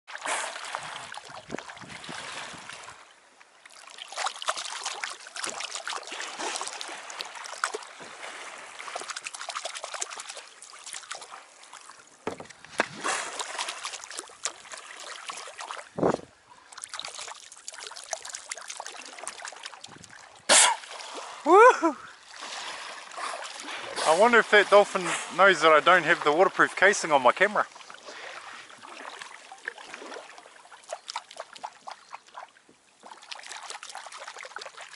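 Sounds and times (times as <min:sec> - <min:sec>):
water trickling around kayak: 0:00.1 - 0:34.9.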